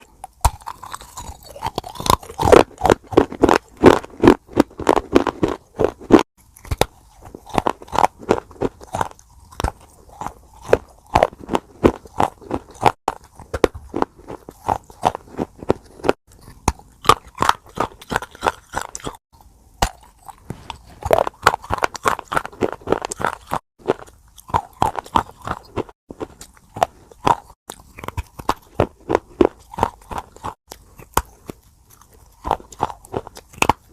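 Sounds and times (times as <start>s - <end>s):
crunchy chewing: 0.0s - 33.9s.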